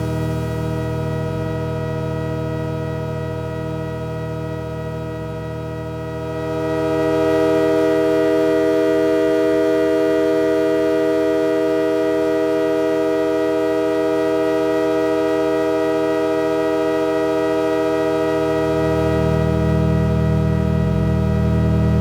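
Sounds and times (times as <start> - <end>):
synthesizer drone chord: 0.0 - 22.0.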